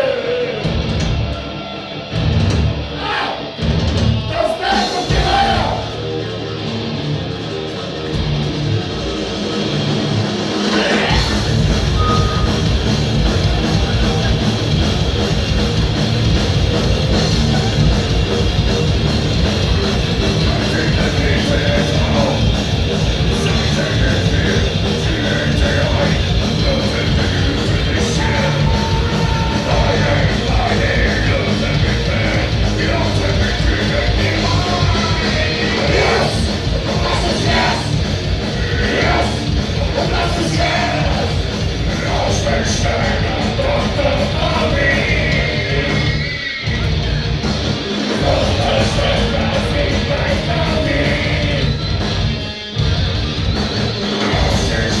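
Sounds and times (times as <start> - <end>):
vocals over band: 0.0 - 1.4, 2.9 - 6.1, 10.5 - 14.8, 15.6 - 47.2, 47.9 - 52.4, 54.0 - 55.0
live rock band playing: 0.0 - 55.0.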